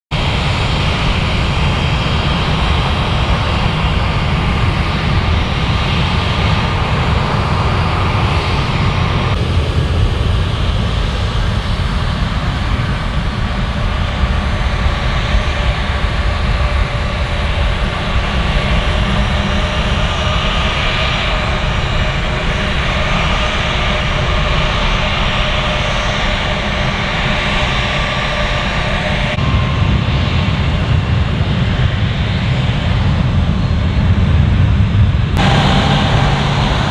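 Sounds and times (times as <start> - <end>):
jet engines whining and rumbling: 0.1 - 36.9.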